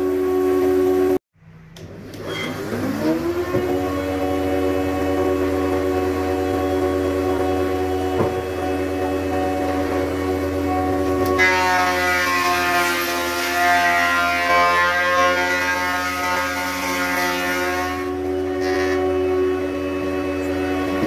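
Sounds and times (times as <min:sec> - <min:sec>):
thickness planer humming: 0:00.0 - 0:21.0
planer cutting wood whine: 0:01.8 - 0:21.0.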